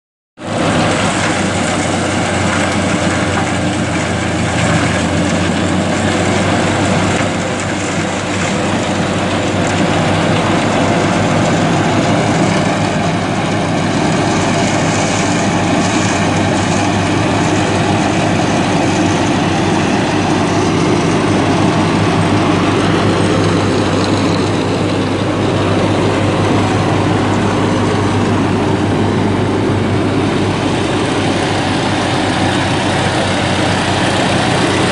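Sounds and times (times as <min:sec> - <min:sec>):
diesel engine running under load: 0:00.4 - 0:34.9
flail rotor cutting grass: 0:00.4 - 0:34.9.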